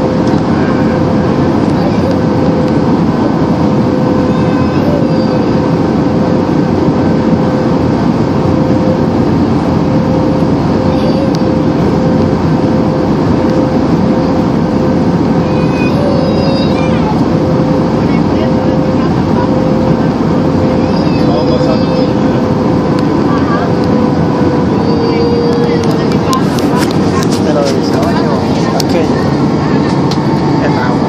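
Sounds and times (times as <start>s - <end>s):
constant hum: 0.0s - 31.0s
jet engine and rushing air: 0.0s - 31.0s.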